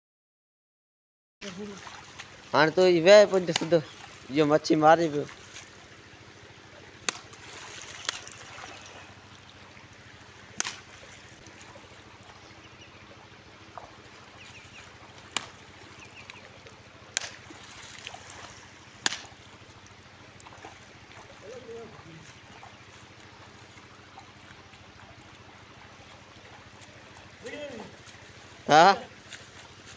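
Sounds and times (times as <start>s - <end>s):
stick slapping water: 1.4s - 4.3s, 5.0s - 29.9s
river water running: 1.4s - 29.9s.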